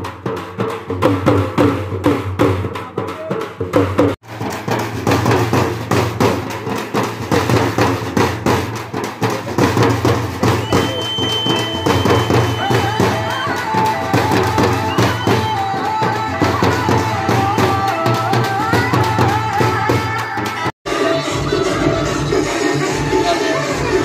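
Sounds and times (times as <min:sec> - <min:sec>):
large drums fast rhythm: 0:00.0 - 0:20.7.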